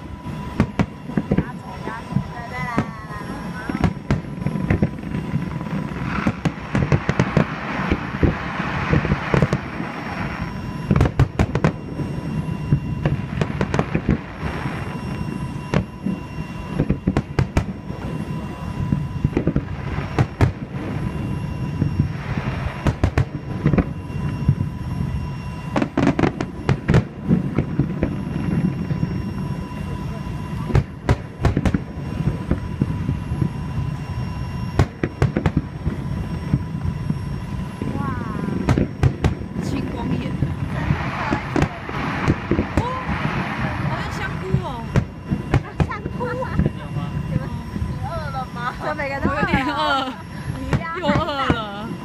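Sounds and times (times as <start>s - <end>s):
fireworks bangs: 0.0s - 52.0s.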